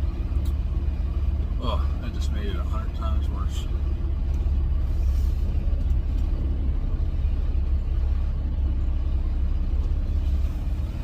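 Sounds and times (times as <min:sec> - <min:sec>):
diesel truck engine rumble: 0:00.0 - 0:11.0
road noise inside cab: 0:00.0 - 0:11.0.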